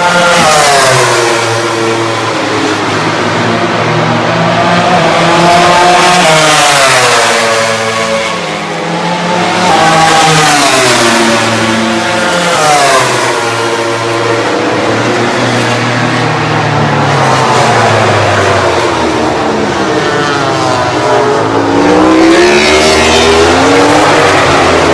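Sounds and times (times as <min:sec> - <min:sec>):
racing motorcycle engines: 0:00.0 - 0:24.9.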